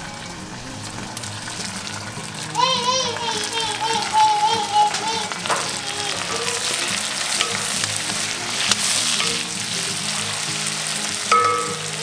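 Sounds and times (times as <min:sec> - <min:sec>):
onions and peppers sizzling: 0:00.0 - 0:12.0.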